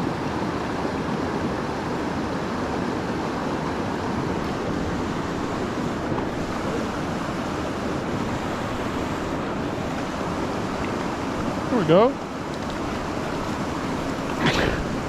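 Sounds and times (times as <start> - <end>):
creek water flowing over rocks: 0.6 - 15.0.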